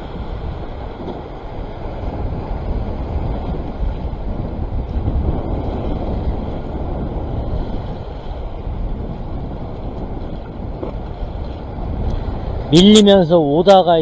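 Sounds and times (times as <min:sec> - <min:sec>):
choppy sea washing: 0:00.0 - 0:14.0
wind rumble on microphone: 0:00.0 - 0:14.0.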